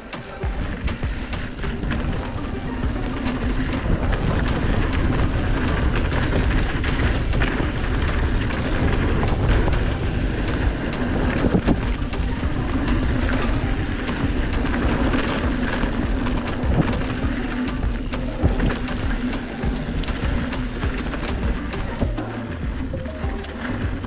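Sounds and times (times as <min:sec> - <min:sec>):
bike tyres rumbling on dirt: 0:00.2 - 0:24.0
wind buffeting microphone: 0:00.4 - 0:22.2.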